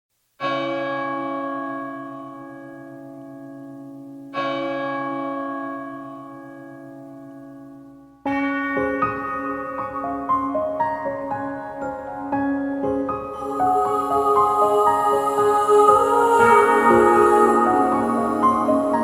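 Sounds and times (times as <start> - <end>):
music: 0.4 - 19.0.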